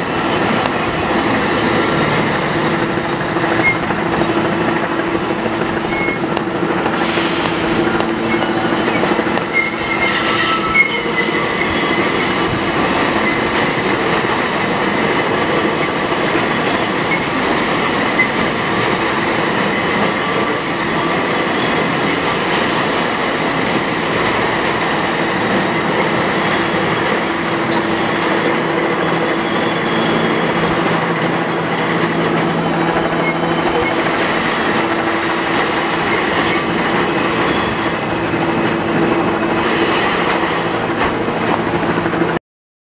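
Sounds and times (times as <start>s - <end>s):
high wheel squeal: 0.0s - 5.0s, 5.8s - 6.3s, 6.9s - 38.6s
train wheels rumbling on rail: 0.0s - 42.4s.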